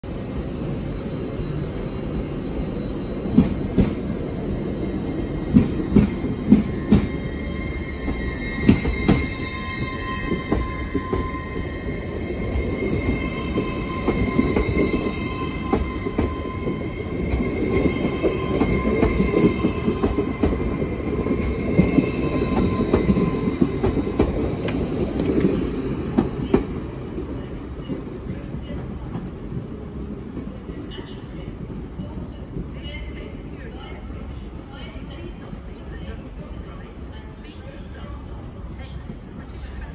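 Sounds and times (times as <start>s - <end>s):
train carriages rumbling: 0.0s - 39.9s.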